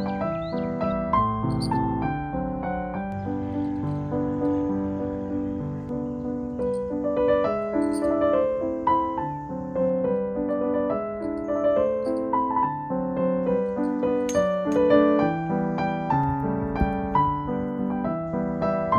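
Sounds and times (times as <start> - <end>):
piano melody over chords: 0.0 - 18.9.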